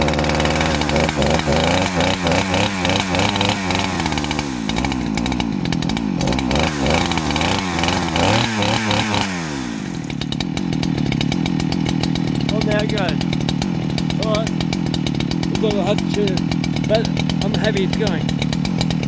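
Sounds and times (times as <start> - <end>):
chainsaw engine revving: 0.0 - 19.0
chainsaw idling: 0.0 - 19.0.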